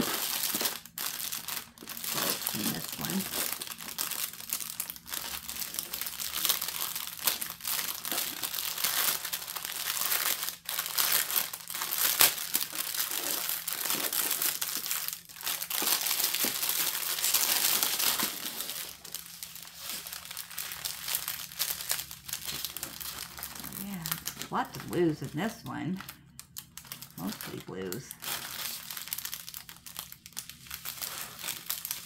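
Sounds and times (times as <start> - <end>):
plastic wrap crinkling: 0.0 - 32.0.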